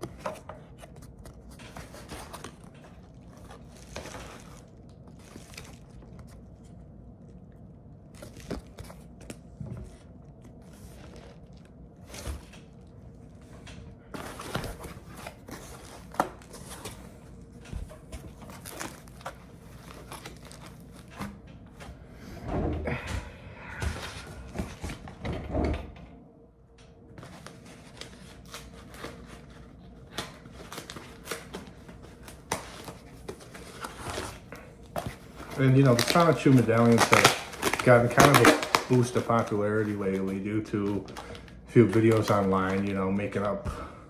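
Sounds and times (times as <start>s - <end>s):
packaging crinkling and rustling: 0.0s - 21.5s, 27.2s - 43.6s.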